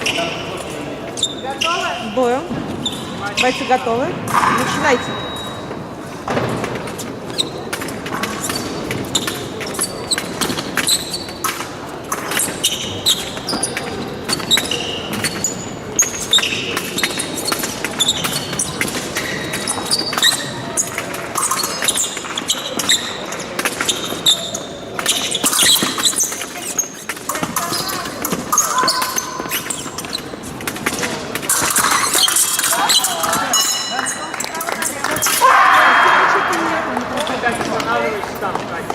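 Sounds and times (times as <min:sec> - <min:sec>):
shoe squeaks: 0:00.0 - 0:36.4
murmur of voices: 0:00.0 - 0:38.9.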